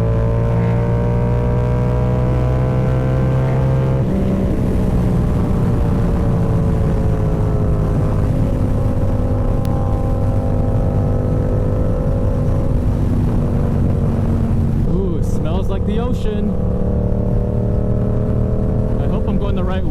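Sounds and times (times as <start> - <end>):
motorcycle engine running: 0.0 - 19.9
wind rushing over microphone: 0.0 - 19.9.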